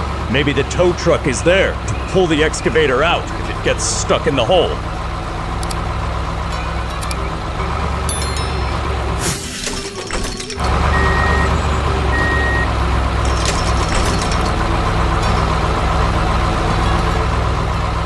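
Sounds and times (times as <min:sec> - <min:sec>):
heavy vehicle engine running: 0:00.0 - 0:18.0.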